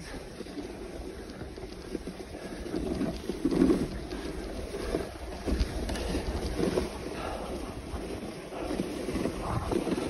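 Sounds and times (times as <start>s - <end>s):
sled runners scraping over snow: 0.0s - 10.0s
wind buffeting microphone: 0.0s - 10.0s.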